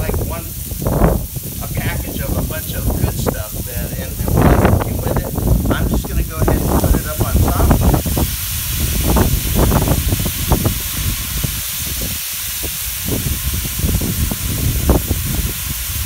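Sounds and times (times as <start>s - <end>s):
food sizzling and crackling: 0.0s - 16.0s
liquid poured onto hot griddle: 0.0s - 16.0s.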